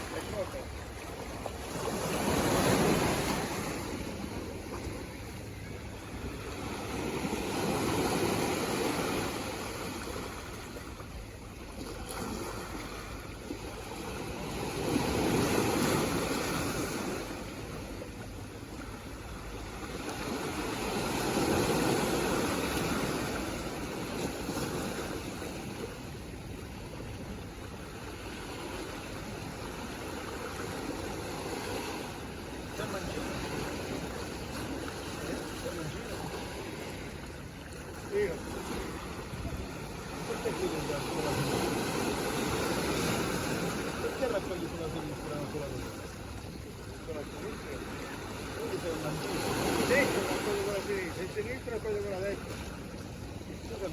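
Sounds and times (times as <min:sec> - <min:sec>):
sea waves washing ashore: 0:00.0 - 0:53.9.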